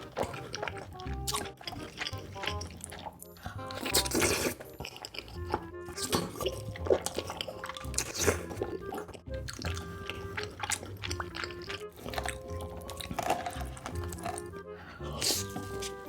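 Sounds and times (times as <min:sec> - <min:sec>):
music with held notes: 0:00.0 - 0:16.0
wet chewing and biting: 0:00.0 - 0:16.0.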